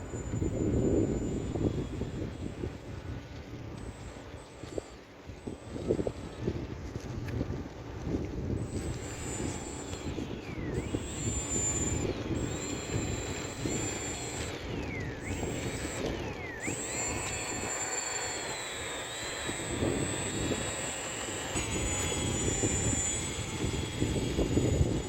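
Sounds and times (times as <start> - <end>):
model airplane motor whining: 0.0 - 25.0.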